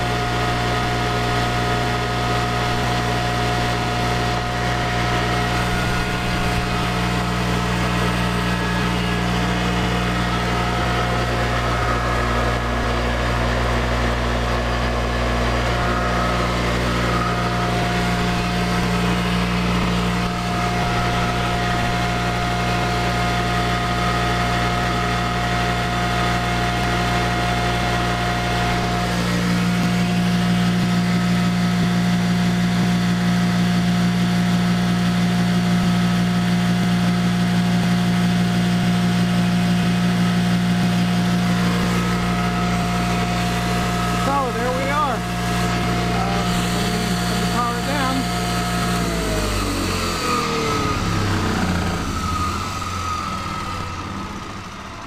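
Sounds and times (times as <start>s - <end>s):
high whine: 0.0s - 33.5s, 38.9s - 55.0s
electric motor hum: 0.0s - 55.0s.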